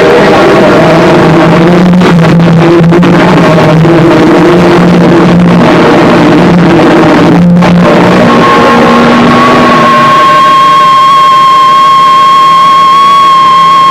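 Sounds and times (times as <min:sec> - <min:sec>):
distorted noise music: 0:00.0 - 0:13.9
low drones: 0:00.0 - 0:13.9
piercing electronic tone: 0:00.0 - 0:13.9.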